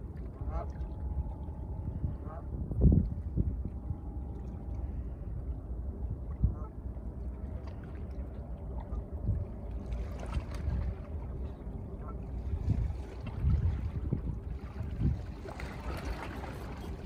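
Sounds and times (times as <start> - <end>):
faint water sounds: 0.0 - 17.0
wind rumble on microphone: 0.0 - 17.0.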